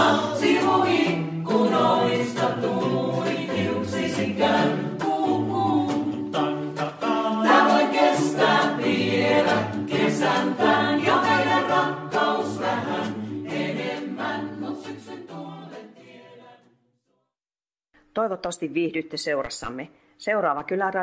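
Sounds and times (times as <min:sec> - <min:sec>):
vocal ensemble singing a cappella: 0:00.0 - 0:16.8.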